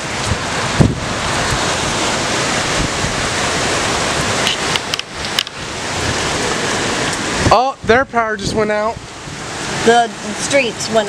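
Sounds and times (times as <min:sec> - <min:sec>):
hurricane wind and rain: 0:00.0 - 0:11.0
wind buffeting microphone: 0:00.0 - 0:11.0.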